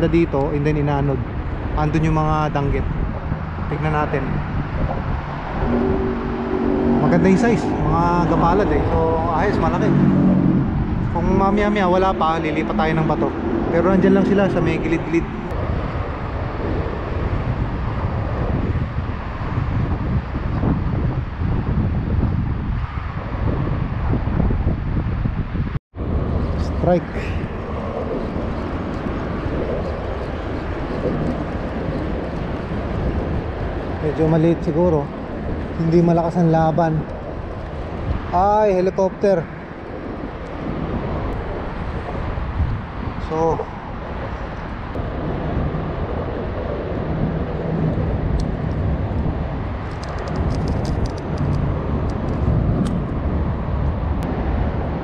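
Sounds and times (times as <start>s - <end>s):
low engine rumble: 0.0s - 20.4s, 26.0s - 55.0s.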